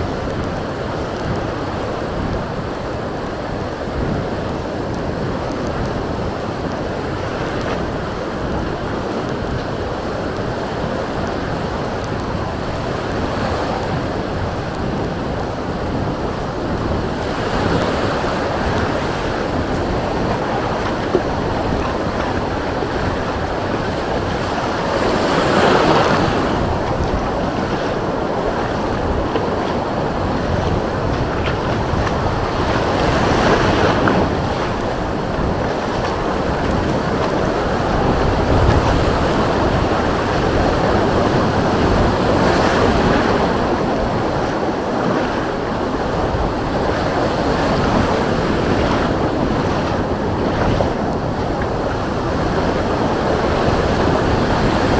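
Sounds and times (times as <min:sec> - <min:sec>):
sea waves breaking on shore: 0:00.0 - 0:54.9
wind buffeting microphone: 0:00.0 - 0:54.9.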